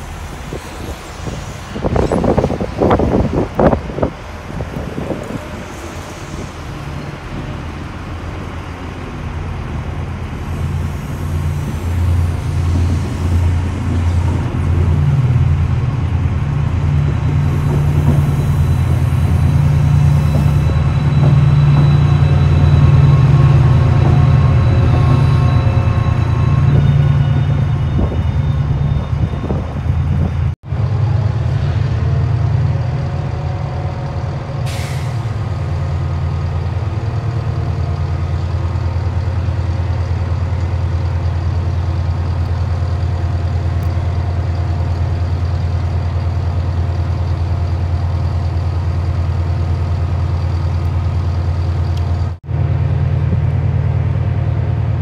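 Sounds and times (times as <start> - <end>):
diesel locomotive engine droning: 0.0 - 55.0
locomotives idling: 0.0 - 55.0.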